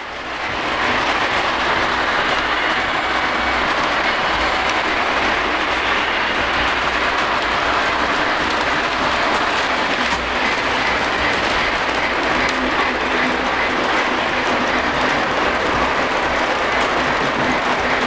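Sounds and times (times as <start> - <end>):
model trains rolling on track: 0.0 - 18.0.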